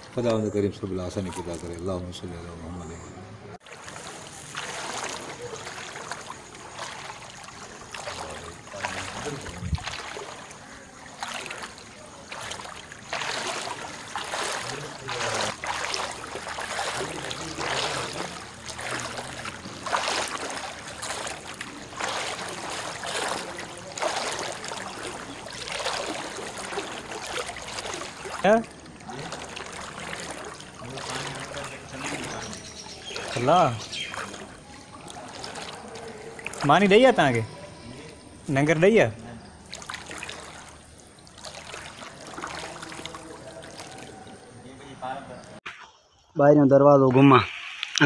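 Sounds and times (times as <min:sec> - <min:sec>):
floodwater sloshing and splashing: 0:00.0 - 0:45.6.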